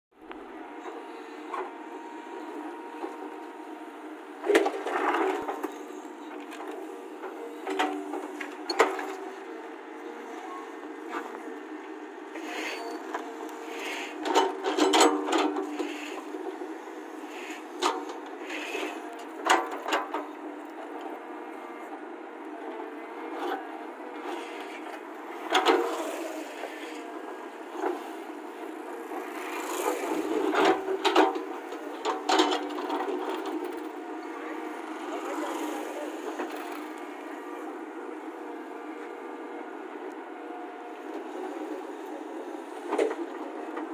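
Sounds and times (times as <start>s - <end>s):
excavator diesel engine: 0.2s - 43.9s.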